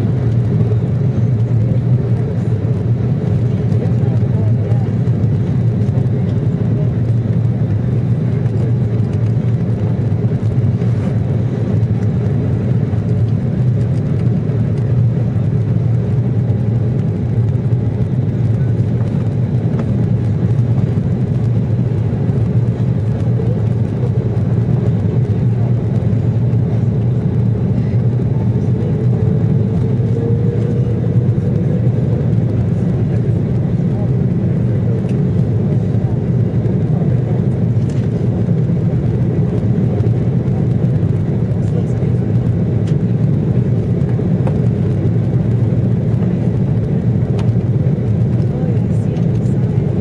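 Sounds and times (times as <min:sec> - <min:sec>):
jet engines rumbling: 0:00.0 - 0:50.0.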